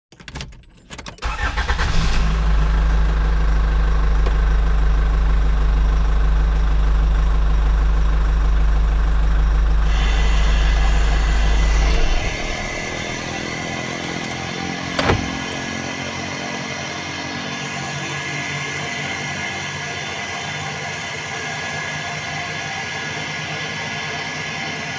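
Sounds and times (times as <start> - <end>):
floor saw engine running: 2.2 - 24.9.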